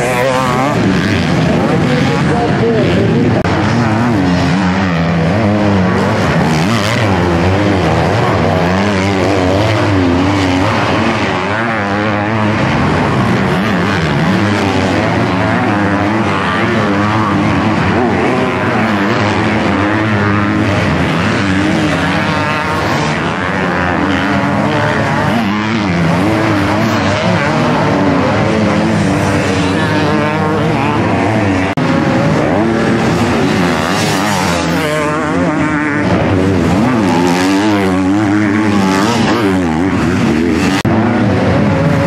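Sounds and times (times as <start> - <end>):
motocross bike engines revving: 0.0 - 42.0.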